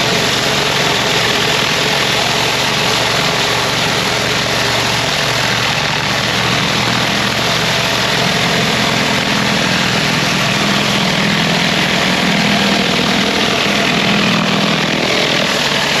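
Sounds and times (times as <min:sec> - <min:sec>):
high-pressure water jet hissing: 0:00.0 - 0:16.0
pressure washer engine humming: 0:00.0 - 0:16.0.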